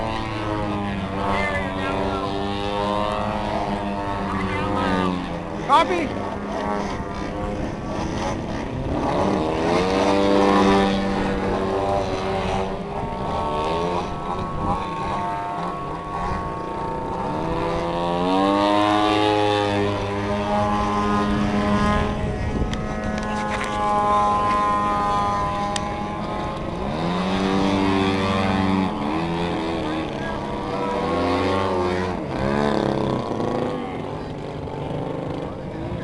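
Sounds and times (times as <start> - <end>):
model airplane engines: 0.0 - 36.0.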